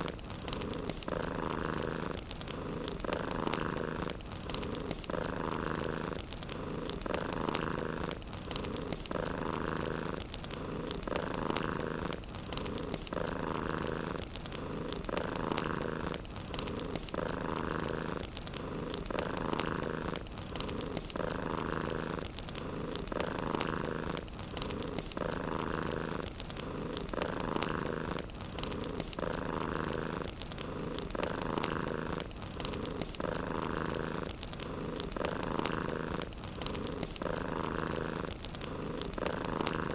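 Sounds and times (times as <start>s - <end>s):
cat purring: 0.0s - 39.9s
fireplace crackling: 0.0s - 39.9s.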